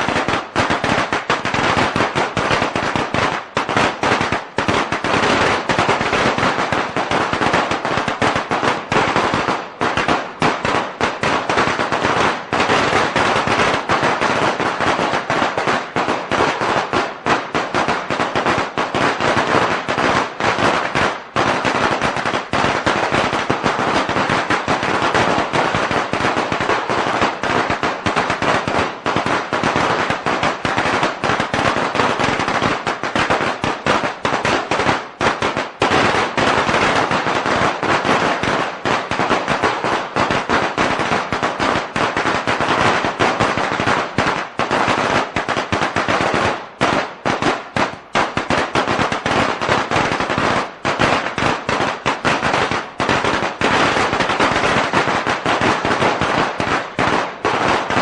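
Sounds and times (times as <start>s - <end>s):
firecrackers going off: 0.0s - 58.0s.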